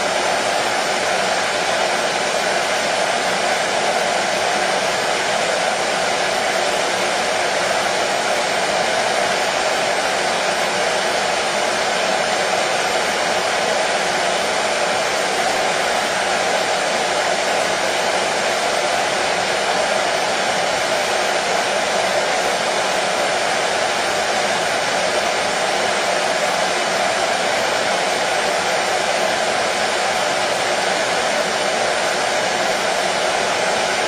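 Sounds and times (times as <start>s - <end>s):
hair dryer running: 0.0s - 34.0s.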